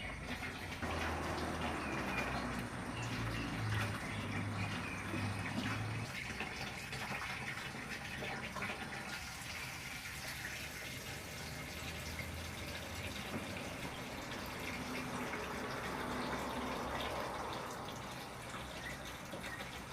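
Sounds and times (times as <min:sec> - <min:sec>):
water running and splashing: 0:00.0 - 0:19.9.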